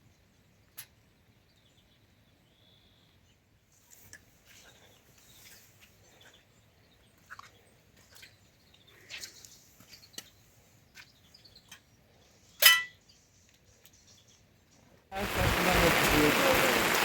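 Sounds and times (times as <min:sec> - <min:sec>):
faint bird chirps: 0:00.0 - 0:14.9.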